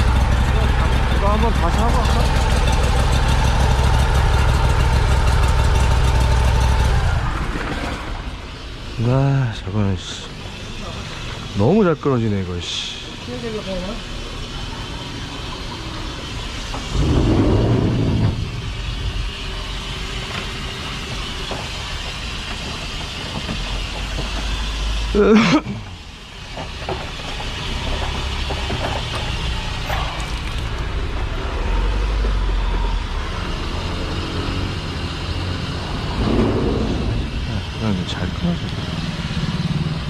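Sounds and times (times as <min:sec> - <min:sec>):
drain jetter engine rumbling: 0:00.0 - 0:40.0.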